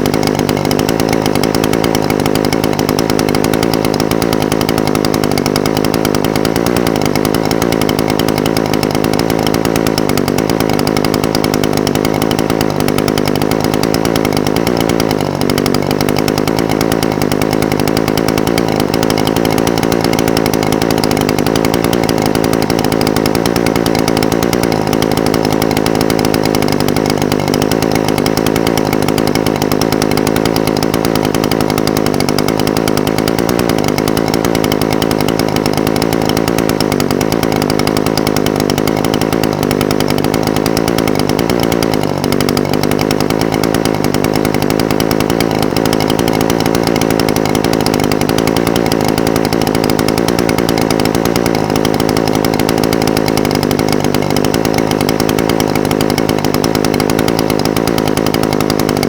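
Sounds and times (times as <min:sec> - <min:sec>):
brush cutter engine idling: 0:00.0 - 0:59.0.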